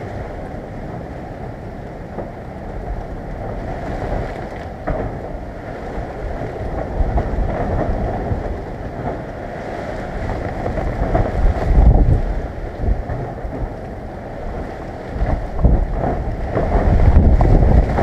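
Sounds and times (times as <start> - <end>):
rain: 0.0 - 18.0
wind buffeting microphone: 0.0 - 18.0
wind gusting through tree: 0.0 - 18.0.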